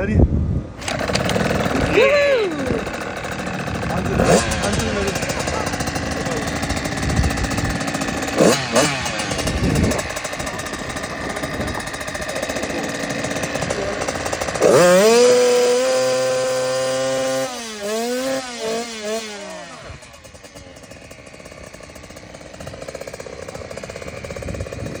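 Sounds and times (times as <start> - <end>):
motocross bike engine revving: 0.8 - 25.0.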